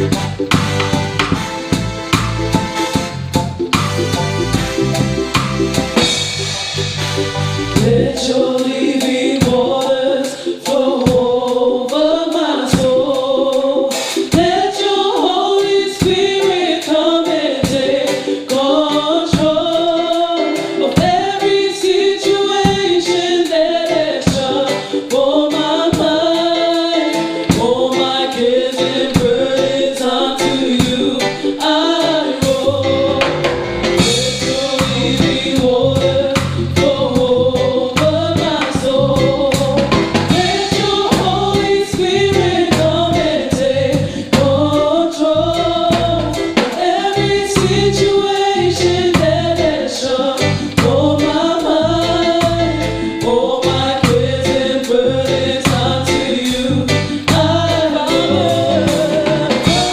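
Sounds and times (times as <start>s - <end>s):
drum kit steady beat: 0.0s - 59.9s
voices singing: 5.9s - 59.9s.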